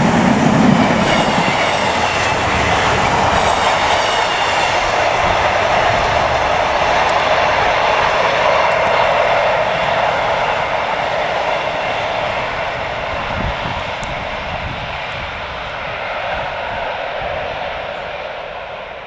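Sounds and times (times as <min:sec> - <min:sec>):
train wheels rolling on rail: 0:00.0 - 0:19.0.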